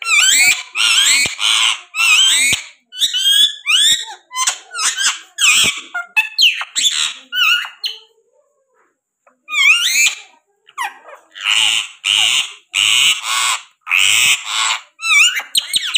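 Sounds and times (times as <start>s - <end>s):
parakeet squawks and chirps: 0.0s - 8.1s, 9.3s - 15.9s.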